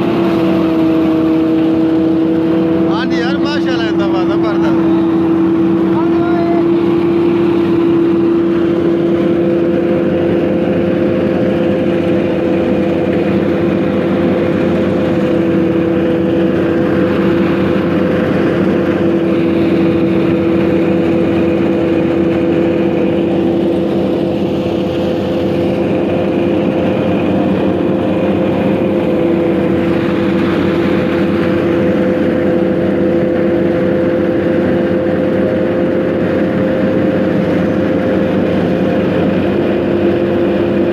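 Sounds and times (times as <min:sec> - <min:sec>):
tractor engine driving thresher: 0:00.0 - 0:40.9.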